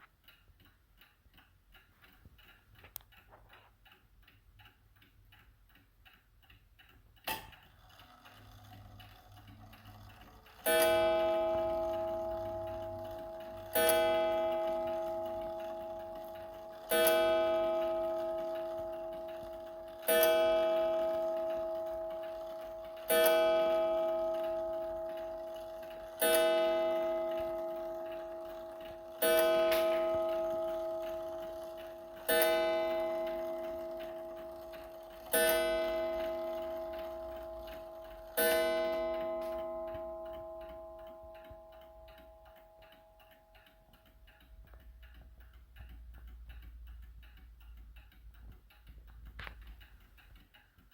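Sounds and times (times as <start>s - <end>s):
clock ticking: 0.0s - 50.9s
mantel clock striking: 7.2s - 50.9s.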